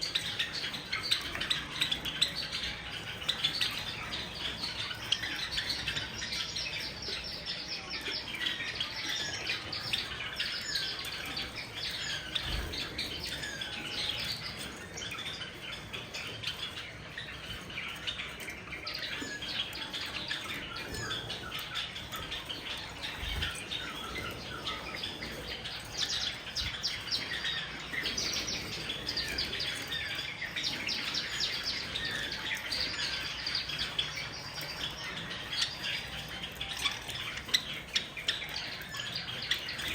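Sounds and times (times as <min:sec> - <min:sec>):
flock of sparrows chirping: 0:00.0 - 0:39.9.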